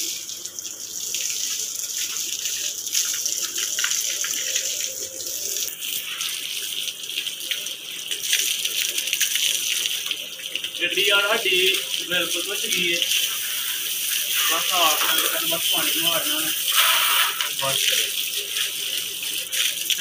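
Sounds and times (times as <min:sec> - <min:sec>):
garden hose water spraying: 0:00.0 - 0:20.0
water splattering on ground: 0:01.1 - 0:05.0, 0:05.6 - 0:20.0.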